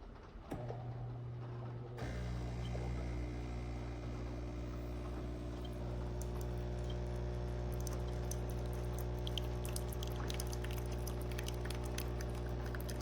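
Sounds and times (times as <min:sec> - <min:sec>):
espresso machine humming: 0:02.0 - 0:13.0.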